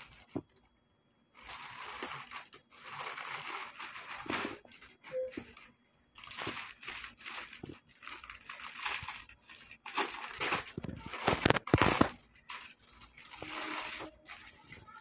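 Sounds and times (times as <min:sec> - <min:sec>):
plastic packet crinkling: 0:01.4 - 0:15.0.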